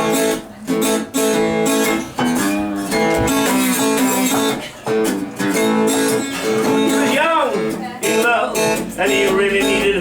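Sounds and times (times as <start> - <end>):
acoustic guitar blues strumming: 0.0 - 10.0.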